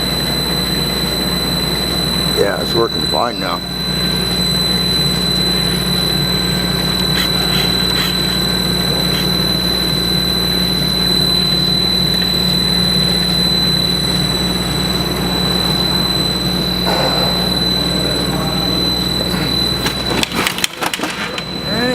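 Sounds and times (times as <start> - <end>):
grinder humming with high whine: 0.0 - 21.9.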